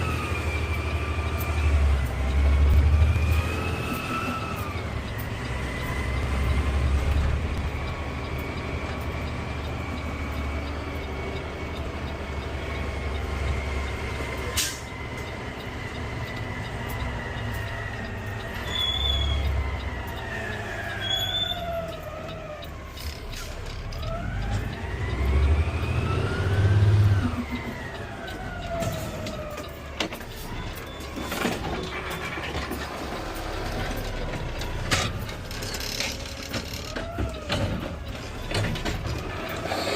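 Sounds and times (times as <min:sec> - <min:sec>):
truck engine rumble with whine: 0:00.0 - 0:39.9.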